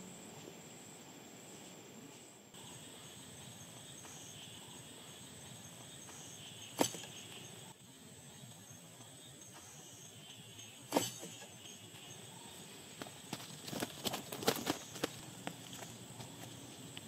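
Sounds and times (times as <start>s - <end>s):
faint insects calling: 0.0s - 17.0s.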